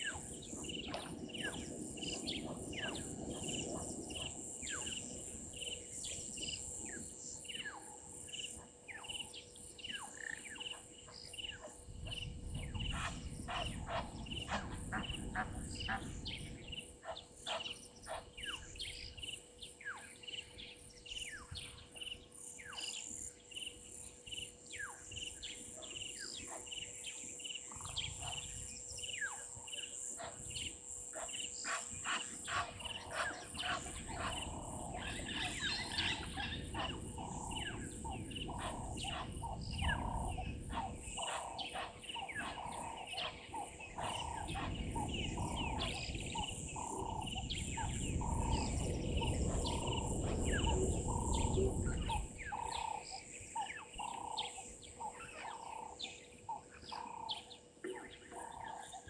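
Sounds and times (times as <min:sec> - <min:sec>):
high insect trill: 0:00.0 - 0:57.6
birds whistling and chirping: 0:08.4 - 0:59.0.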